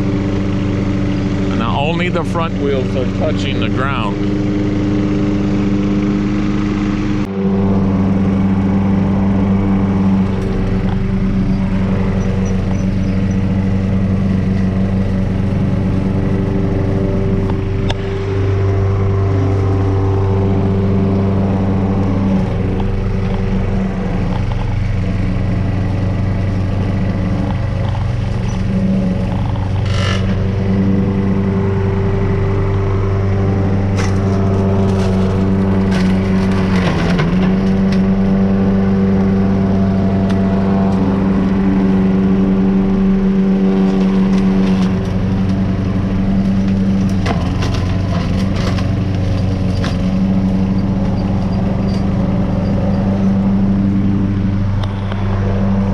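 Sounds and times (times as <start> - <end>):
lawnmower engine running: 0.0 - 55.9
tractor engine: 0.0 - 55.9.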